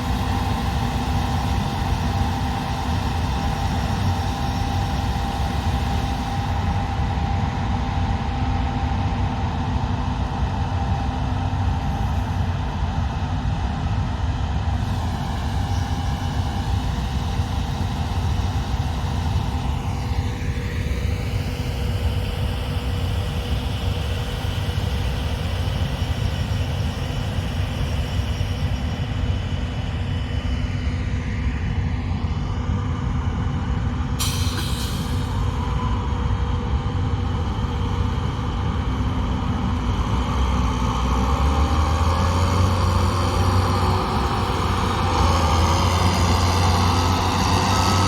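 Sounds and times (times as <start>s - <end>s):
combine harvester engine drone: 0.0s - 48.0s.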